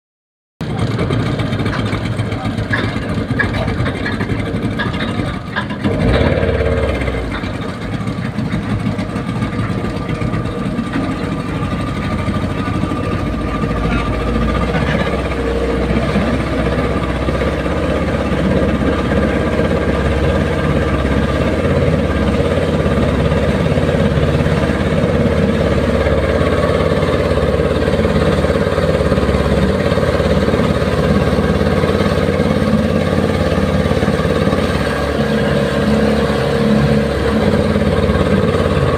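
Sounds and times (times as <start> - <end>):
boat engine running steadily: 0.6 - 38.9.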